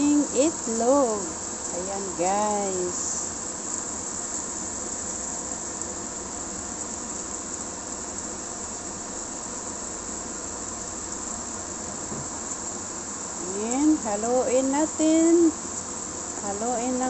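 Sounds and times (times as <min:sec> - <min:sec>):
eggs sizzling in a pan: 0:00.0 - 0:17.0.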